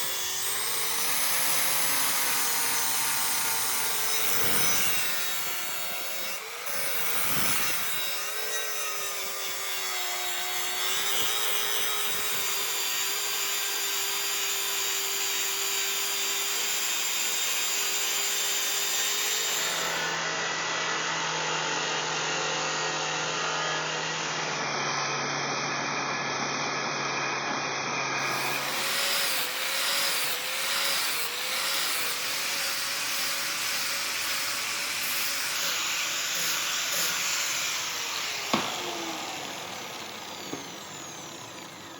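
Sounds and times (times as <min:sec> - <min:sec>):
power grinder grinding steel: 0:00.0 - 0:24.4, 0:28.2 - 0:41.9.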